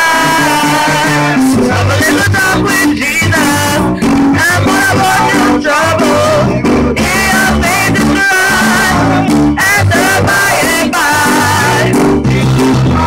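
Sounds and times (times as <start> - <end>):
drum kit steady beat: 0.0 - 13.0
electric keyboard: 0.0 - 13.0
man singing with vibrato: 0.0 - 13.0.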